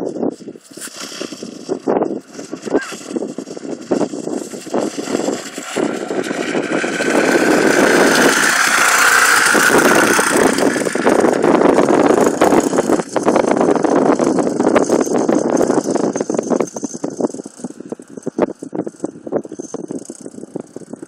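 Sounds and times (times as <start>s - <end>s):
small motorbike engine running: 0.0s - 21.0s.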